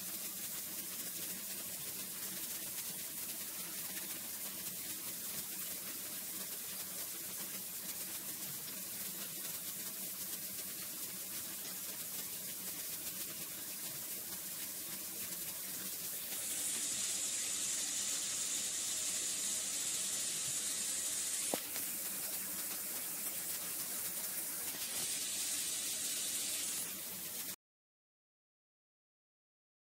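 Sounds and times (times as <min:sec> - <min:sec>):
steady hiss: 0:00.0 - 0:27.6.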